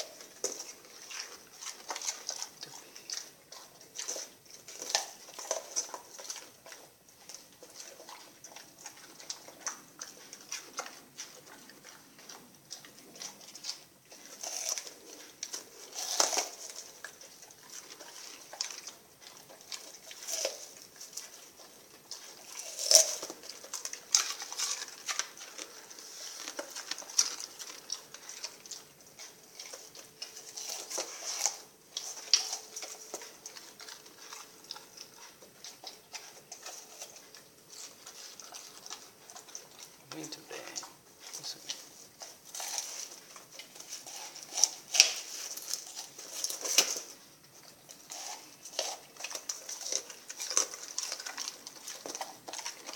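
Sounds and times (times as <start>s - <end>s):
dog eating with wet smacking: 0.0s - 52.9s.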